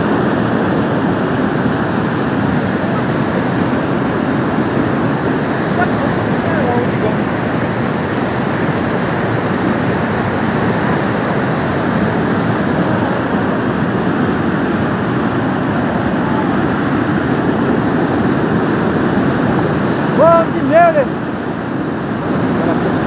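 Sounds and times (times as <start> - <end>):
mudflow rushing: 0.0 - 23.0.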